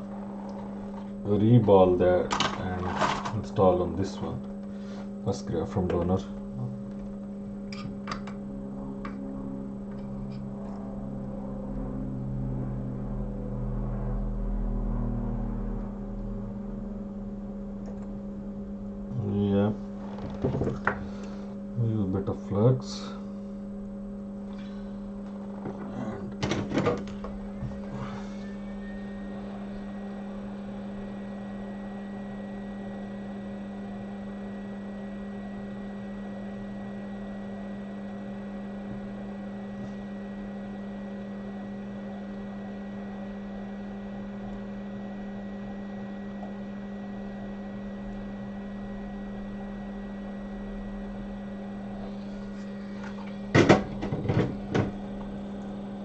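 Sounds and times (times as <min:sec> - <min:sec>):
high-pitched whine: 0:00.0 - 0:56.0
rework station electrical hum: 0:00.0 - 0:56.0.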